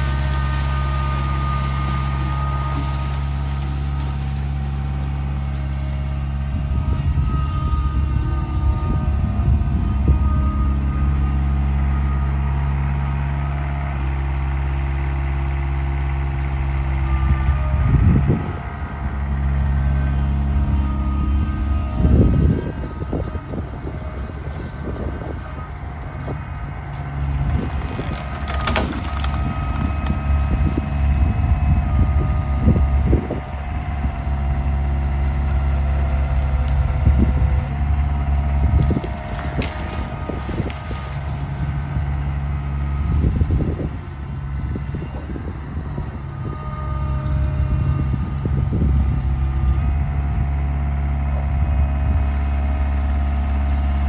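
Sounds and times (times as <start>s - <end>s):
loader engine under load: 0.0s - 54.0s.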